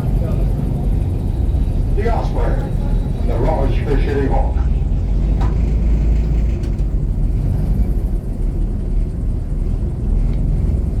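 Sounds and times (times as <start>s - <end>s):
airboat engine and propeller rumbling: 0.0s - 11.0s.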